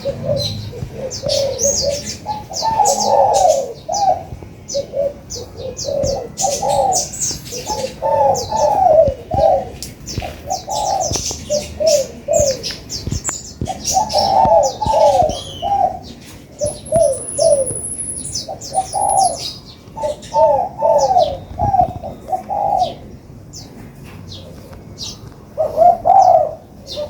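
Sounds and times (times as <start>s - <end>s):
sunbird chirping: 0.0s - 23.1s
dove cooing: 0.0s - 23.2s, 24.4s - 27.0s.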